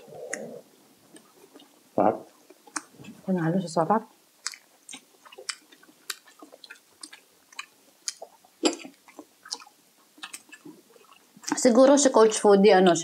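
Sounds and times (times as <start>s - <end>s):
person chewing: 0.0s - 3.4s, 4.2s - 11.7s.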